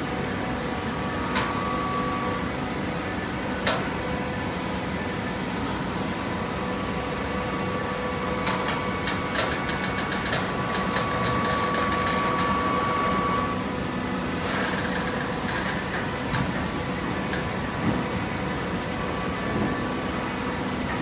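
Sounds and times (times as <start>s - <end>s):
baler machine humming and whining: 0.0s - 21.0s.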